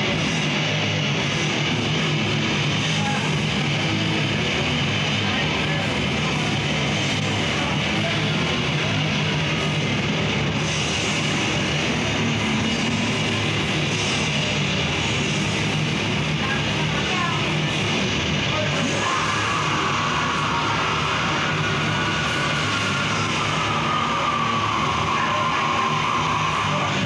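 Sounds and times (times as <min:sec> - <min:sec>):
distorted electric guitar: 0:00.0 - 0:27.0
metal band playing live: 0:00.0 - 0:27.0.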